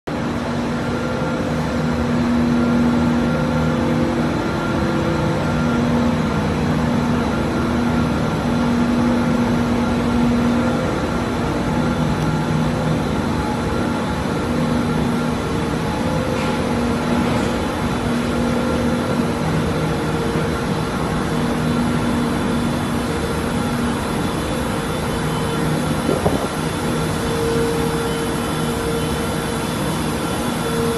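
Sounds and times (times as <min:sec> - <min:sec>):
factory machinery humming: 0:00.1 - 0:30.9.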